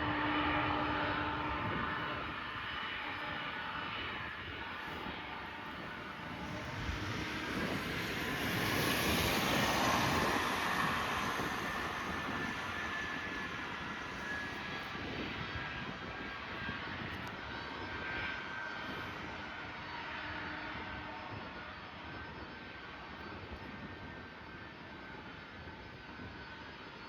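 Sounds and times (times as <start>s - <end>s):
jet airliner engines roaring: 0.0s - 27.0s.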